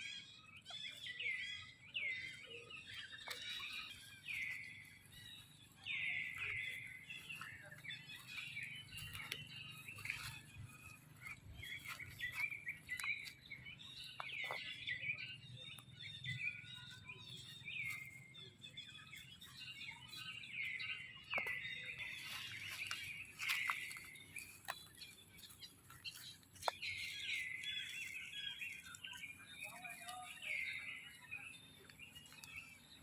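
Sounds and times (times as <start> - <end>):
high-pitched chirping calls: 0.0 - 32.9.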